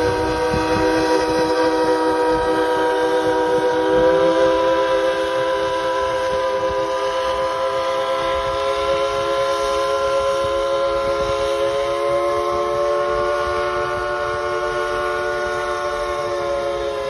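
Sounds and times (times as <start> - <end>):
rumble of train cars: 0.0 - 17.0
steam train whistle chord: 0.0 - 17.0.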